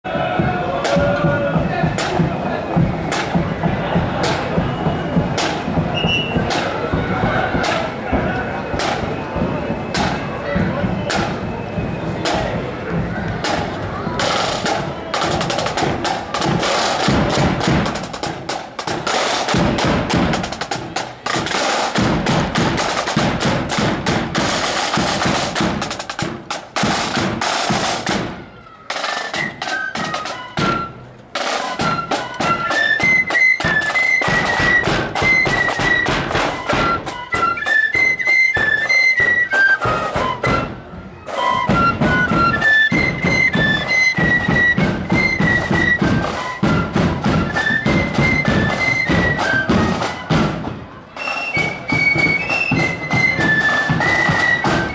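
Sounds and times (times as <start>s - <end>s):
flutes playing marching melody: 0.1s - 54.9s
snare drums rolling: 0.1s - 54.9s.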